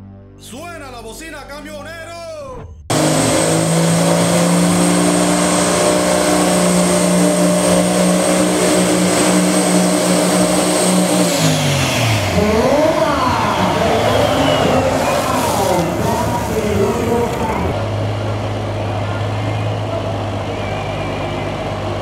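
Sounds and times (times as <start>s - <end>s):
diesel engine revving high: 2.6s - 22.0s.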